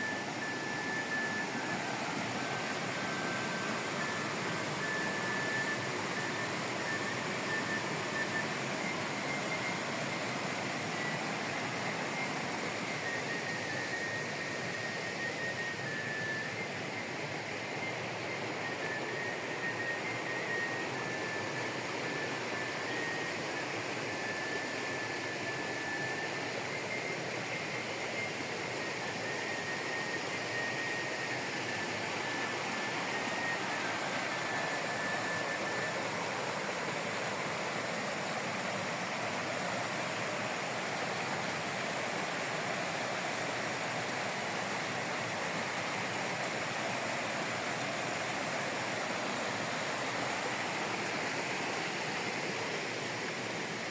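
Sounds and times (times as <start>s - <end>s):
faint high whine: 0.0s - 53.9s
rushing stream water: 0.0s - 53.9s.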